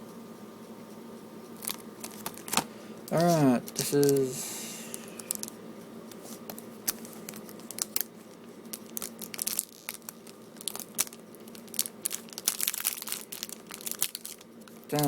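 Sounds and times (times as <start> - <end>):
plastic wrapping crinkling and tearing: 1.6 - 4.3, 4.9 - 15.0.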